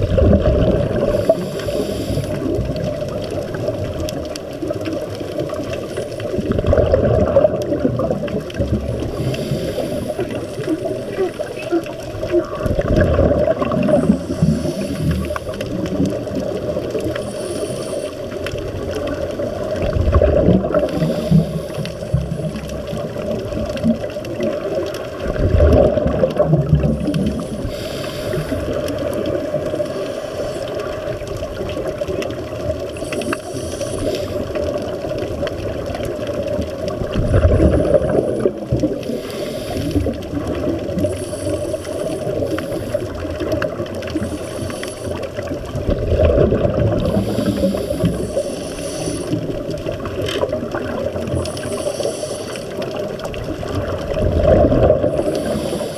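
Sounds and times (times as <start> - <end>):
scuba regulator exhalation bubbling: 0.0 - 55.9
steady underwater rush: 0.0 - 55.9.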